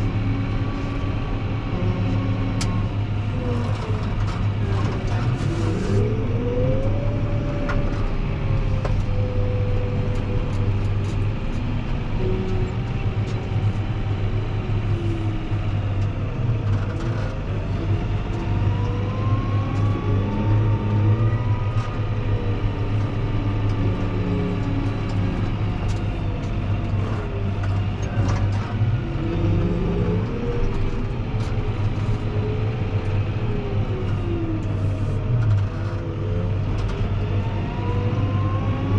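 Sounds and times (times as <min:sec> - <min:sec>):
engine whine: 0:00.0 - 0:38.9
tractor diesel engine running: 0:00.0 - 0:38.9.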